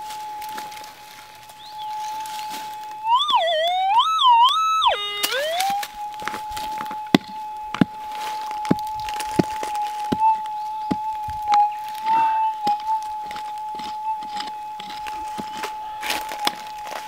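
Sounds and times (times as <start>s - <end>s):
metal detector tone: 0.0s - 17.0s.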